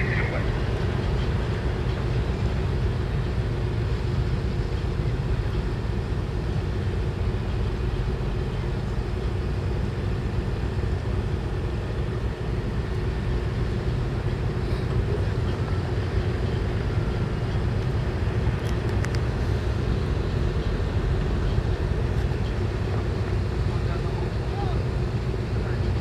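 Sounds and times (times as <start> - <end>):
ship engine droning: 0.0 - 26.0.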